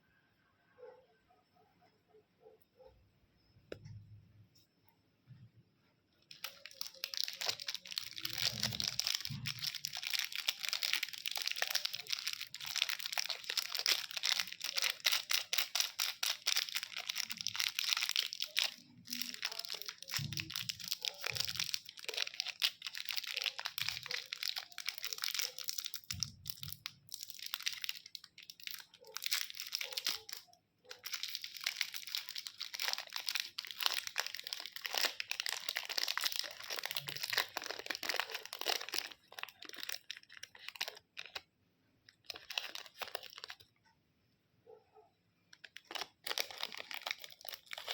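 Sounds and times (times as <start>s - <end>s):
candy wrappers crinkling: 6.2s - 43.8s, 45.5s - 47.9s.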